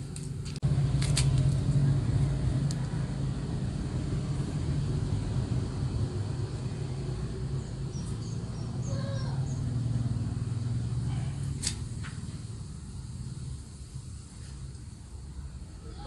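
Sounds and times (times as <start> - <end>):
low engine-like rumble: 0.0 - 16.0.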